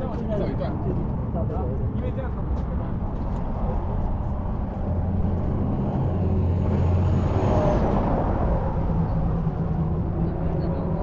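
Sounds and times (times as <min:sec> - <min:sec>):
vehicle rumble: 0:00.0 - 0:11.0.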